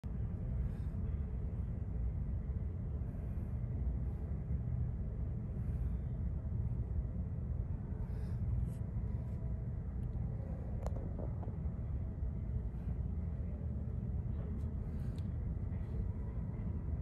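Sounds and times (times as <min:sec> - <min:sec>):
distant freight train rumbling: 0:00.1 - 0:17.0.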